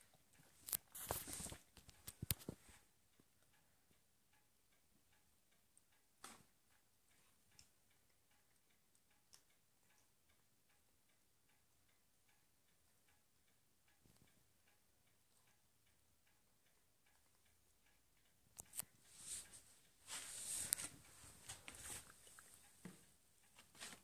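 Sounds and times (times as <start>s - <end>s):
faint regular ticking: 0.0s - 24.0s.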